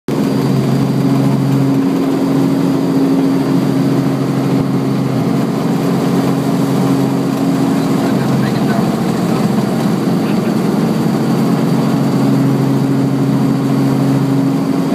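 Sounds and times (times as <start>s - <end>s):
helicopter engine and rotor drone: 0.1s - 14.9s.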